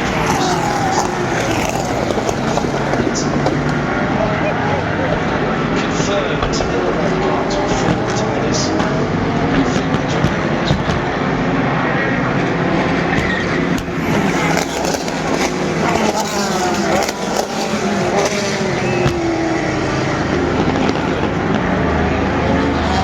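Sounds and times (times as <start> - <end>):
race cars passing at speed: 0.0 - 23.0.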